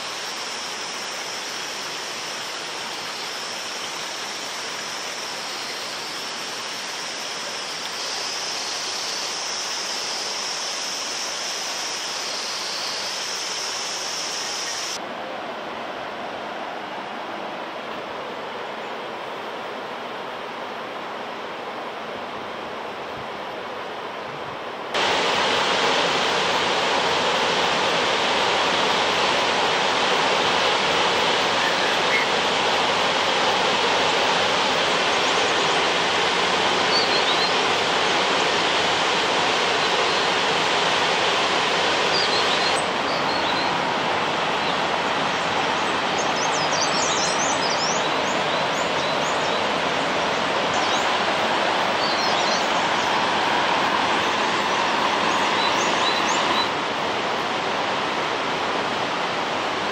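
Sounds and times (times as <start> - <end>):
waterfall rushing: 0.0 - 18.2, 24.9 - 59.9.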